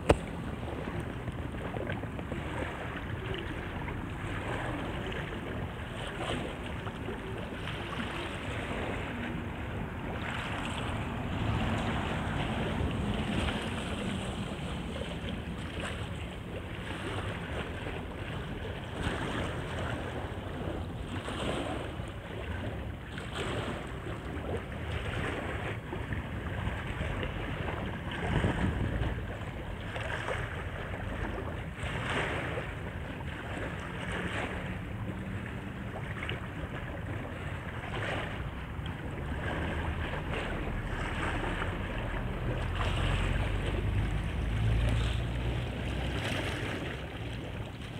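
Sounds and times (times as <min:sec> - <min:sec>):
low boat engine rumble: 0:00.0 - 0:47.9
splashing river water: 0:00.0 - 0:47.9
wind buffeting microphone: 0:00.0 - 0:47.9.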